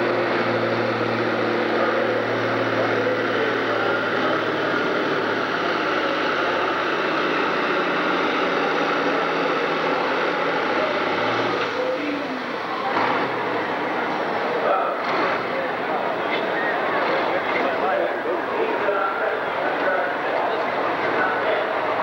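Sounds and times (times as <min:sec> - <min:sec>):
diesel tractor engine at full throttle: 0:00.0 - 0:22.0.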